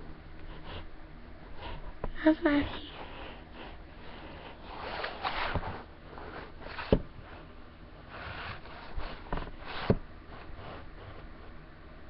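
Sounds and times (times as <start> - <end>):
rustling and handling noise: 0.4 - 11.6.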